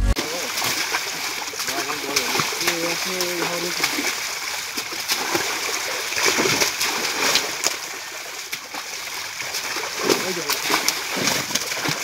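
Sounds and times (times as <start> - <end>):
churning water: 0.2 - 12.0
fish splashing: 0.2 - 12.0.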